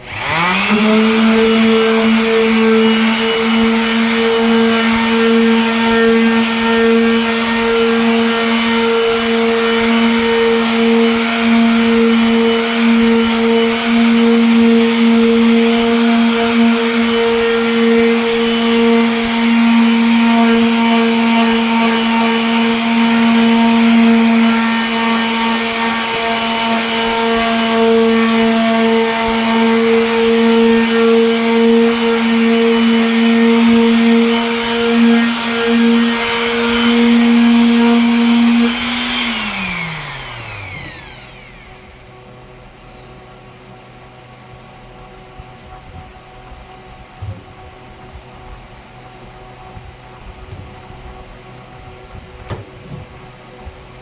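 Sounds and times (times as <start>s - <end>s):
electric sander whining: 0.0s - 54.0s.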